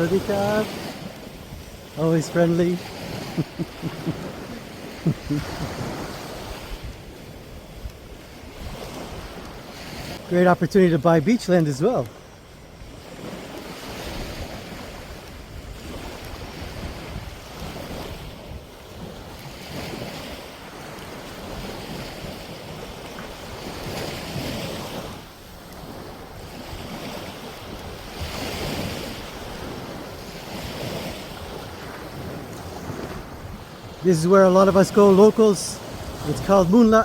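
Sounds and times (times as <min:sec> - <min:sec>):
sea waves washing onto beach: 0:00.0 - 0:37.0
wind buffeting microphone: 0:00.0 - 0:37.0.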